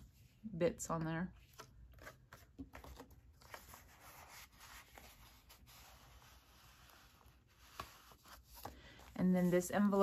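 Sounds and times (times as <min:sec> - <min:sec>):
paper rustling and sliding: 0:01.5 - 0:10.0.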